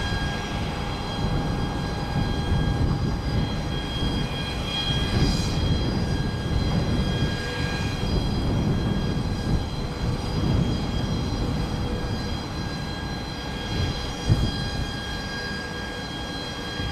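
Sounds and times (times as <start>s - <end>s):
jet engines rumbling and whining: 0.0s - 16.9s.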